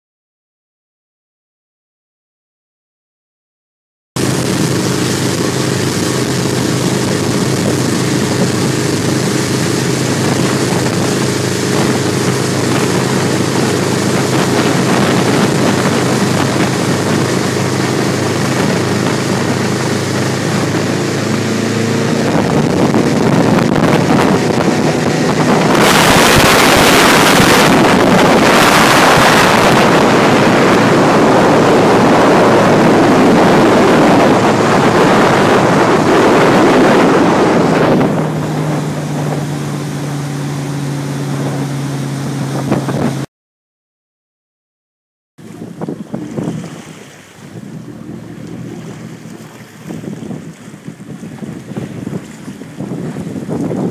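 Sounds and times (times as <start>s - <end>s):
powerboat engines humming: 4.2s - 43.3s, 45.4s - 53.9s
water rushing along hull: 4.2s - 43.3s, 45.4s - 53.9s
wind on microphone: 4.2s - 43.3s, 45.4s - 53.9s.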